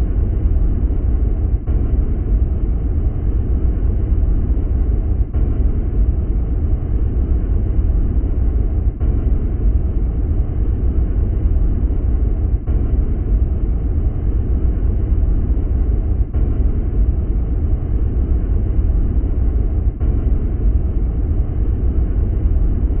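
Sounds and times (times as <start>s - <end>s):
deep rumbling noise: 0.0s - 23.0s.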